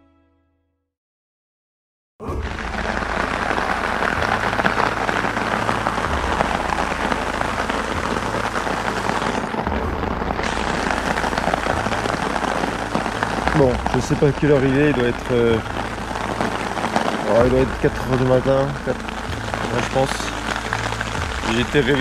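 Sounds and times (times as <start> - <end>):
rain on a tarp: 2.3 - 22.0.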